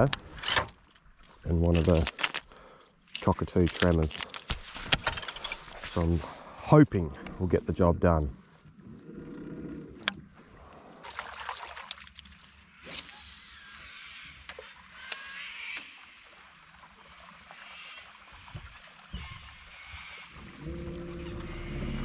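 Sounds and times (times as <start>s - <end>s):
water trickling against boat: 0.6s - 7.6s, 10.0s - 22.0s.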